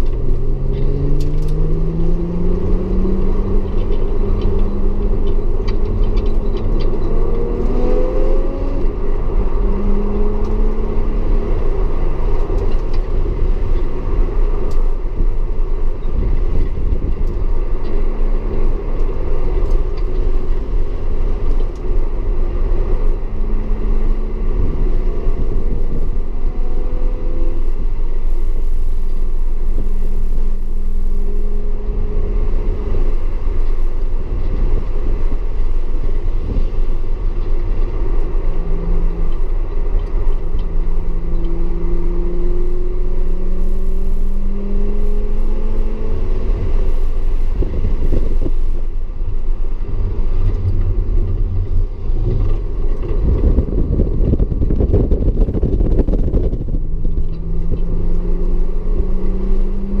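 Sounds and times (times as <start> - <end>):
car engine revving: 0.0 - 60.0
low rumble of road noise: 0.0 - 60.0.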